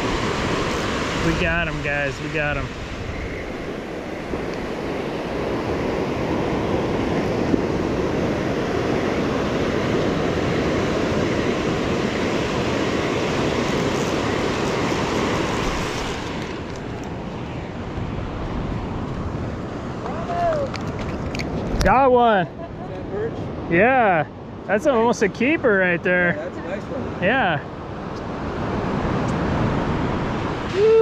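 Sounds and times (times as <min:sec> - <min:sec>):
ocean surf washing on beach: 0:00.0 - 0:31.0.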